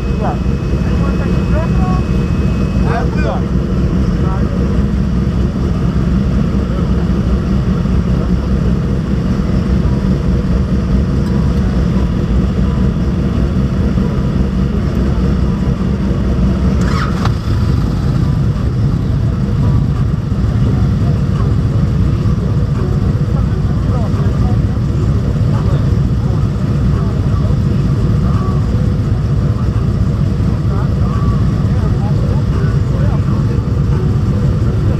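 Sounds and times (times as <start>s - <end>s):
motorcycle engines rumbling: 0.0s - 34.9s.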